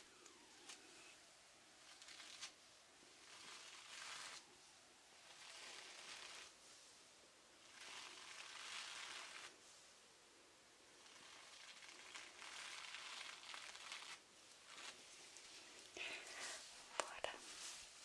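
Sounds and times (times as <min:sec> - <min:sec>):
soft hissing rustles: 0:00.0 - 0:18.0.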